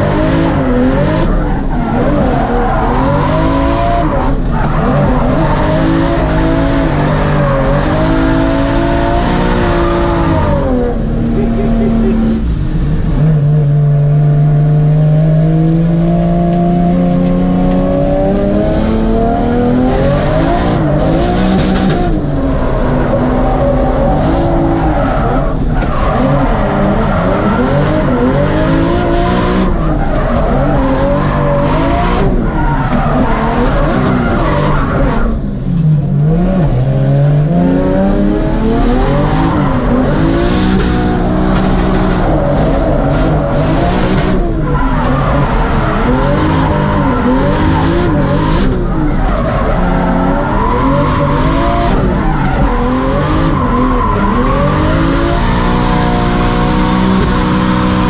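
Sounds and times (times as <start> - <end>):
tyres skidding and squealing: 0.0 - 14.1, 17.1 - 58.0
car engine revving: 0.0 - 58.0.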